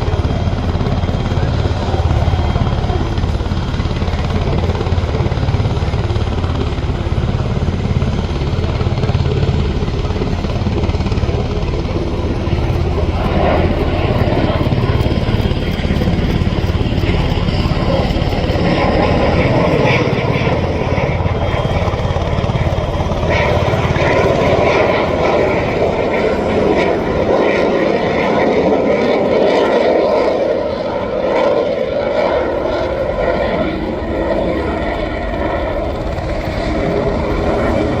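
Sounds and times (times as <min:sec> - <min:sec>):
propeller aircraft engine: 0:00.0 - 0:38.0.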